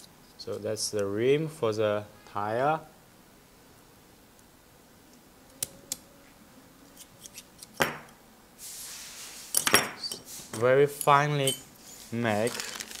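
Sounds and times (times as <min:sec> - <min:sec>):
soft hiss: 0:00.0 - 0:13.0.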